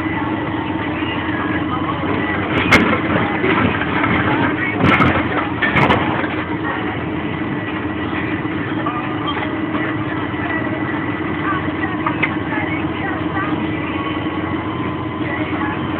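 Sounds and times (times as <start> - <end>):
tractor engine under load: 0.0 - 15.9.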